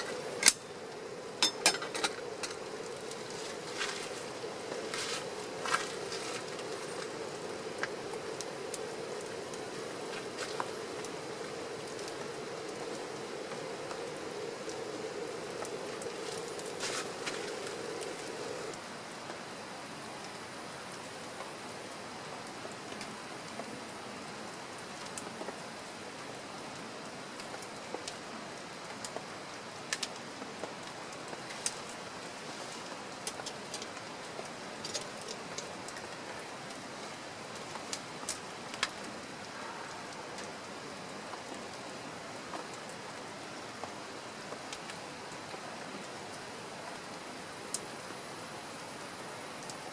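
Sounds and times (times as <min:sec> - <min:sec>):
raindrops tapping on surface: 0:00.0 - 0:19.4, 0:21.3 - 0:47.9
steady rain: 0:00.0 - 0:49.9.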